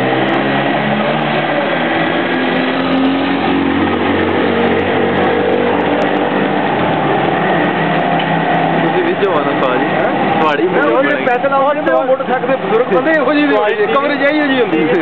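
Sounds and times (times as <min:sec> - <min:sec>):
steady wash of noise: 0:00.0 - 0:15.0.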